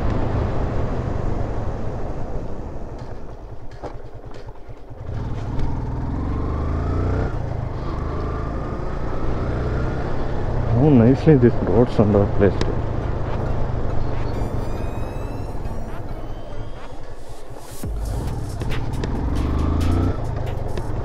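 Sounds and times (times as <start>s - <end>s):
motorcycle engine running: 0.1s - 14.4s, 17.8s - 21.0s.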